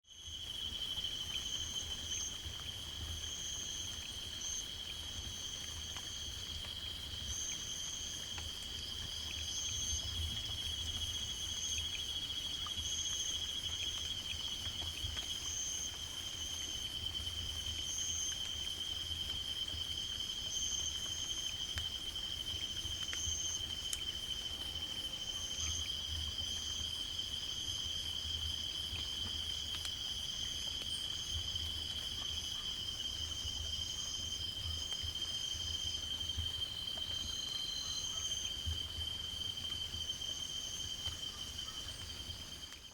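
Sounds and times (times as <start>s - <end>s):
higher intermittent insect trill: 0.1s - 42.9s
steady high insect trill: 0.1s - 42.9s.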